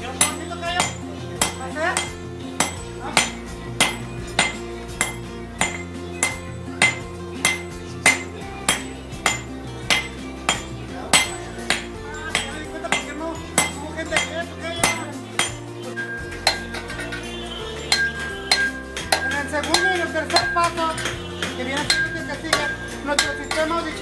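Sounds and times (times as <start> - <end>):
background music: 0.0 - 24.0
hammer striking copper: 0.0 - 24.0.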